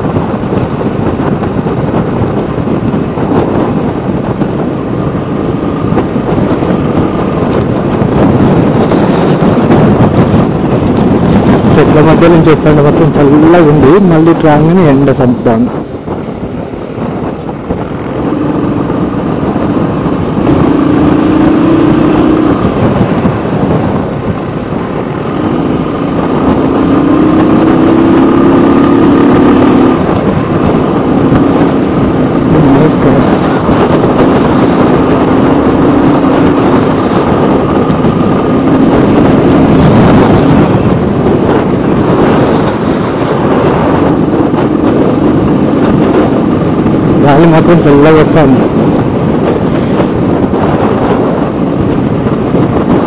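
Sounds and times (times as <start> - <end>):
motorcycle engine revving: 0.0 - 14.6, 15.7 - 53.0
wind rushing over microphone: 0.0 - 53.0.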